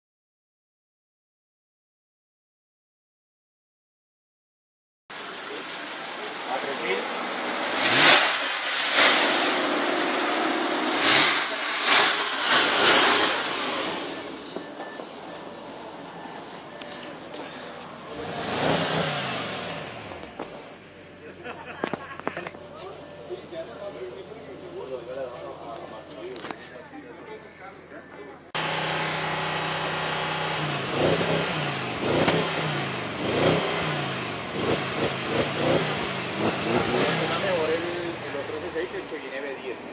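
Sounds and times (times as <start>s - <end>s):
car engine revving: 5.1s - 26.2s, 28.6s - 39.9s
car engine idling: 5.1s - 39.9s.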